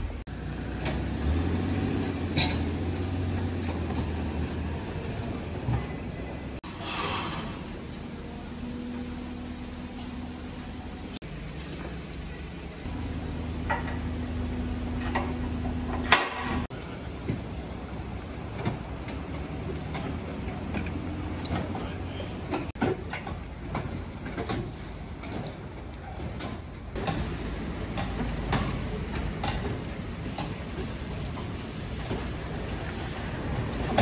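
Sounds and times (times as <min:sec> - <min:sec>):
van engine running: 0:00.0 - 0:06.7, 0:07.7 - 0:34.0
towed cart rattling: 0:00.0 - 0:07.8, 0:09.0 - 0:34.0.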